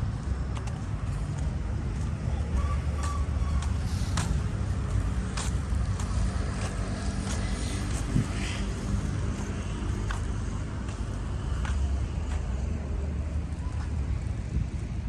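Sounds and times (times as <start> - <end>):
vehicles passing: 0.0 - 15.0.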